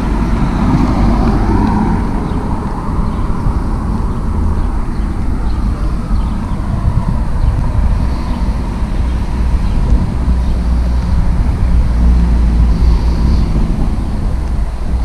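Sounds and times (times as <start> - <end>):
car driving past: 0.0 - 15.0
steady low rumble: 0.0 - 15.0.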